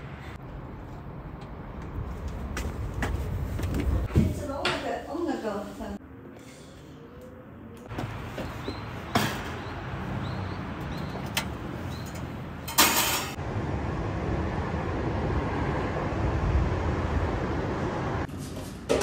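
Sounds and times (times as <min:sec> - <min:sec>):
traffic rumble: 0:00.0 - 0:18.5.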